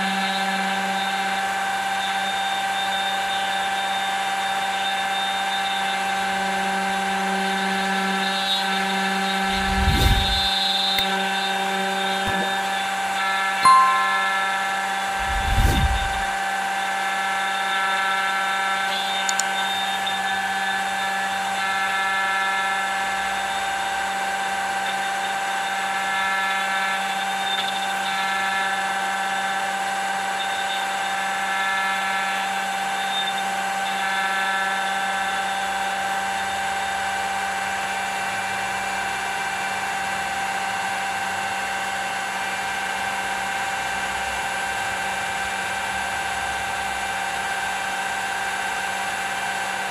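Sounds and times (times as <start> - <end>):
router motor cutting wood: 0.0 - 13.6, 17.0 - 49.9.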